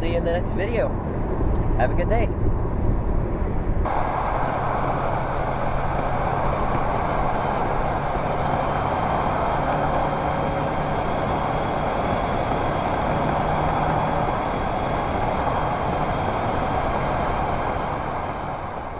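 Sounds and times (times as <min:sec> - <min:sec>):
car engine and road noise: 0:00.0 - 0:18.9.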